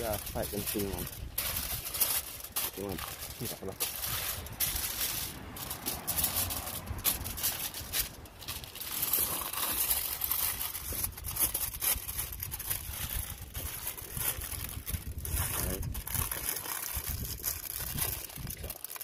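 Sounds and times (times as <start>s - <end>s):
aluminium foil crinkling: 0.0s - 19.0s.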